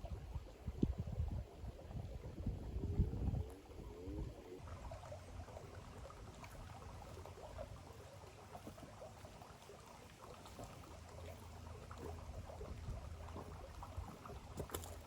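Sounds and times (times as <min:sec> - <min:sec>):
creek water trickling: 0:00.0 - 0:15.0.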